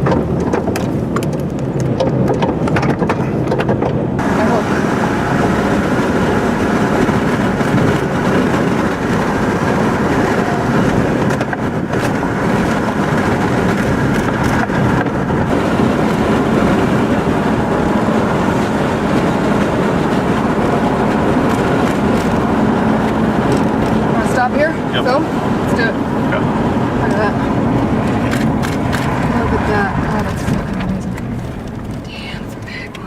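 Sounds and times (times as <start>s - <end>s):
road and wind noise inside car: 0.0s - 33.0s.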